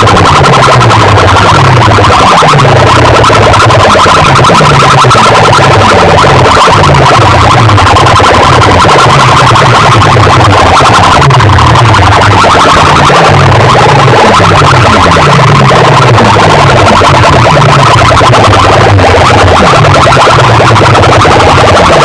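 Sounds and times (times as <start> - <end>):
dj music over loudspeakers: 0.0 - 22.0.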